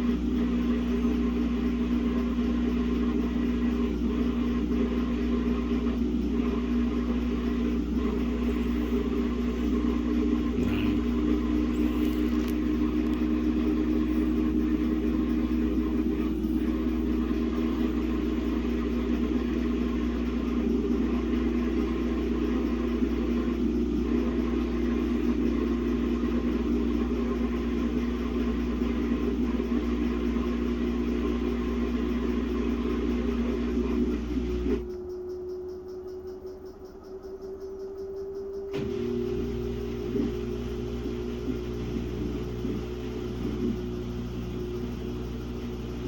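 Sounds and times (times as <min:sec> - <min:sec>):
washing machine spinning: 0:00.0 - 0:46.0.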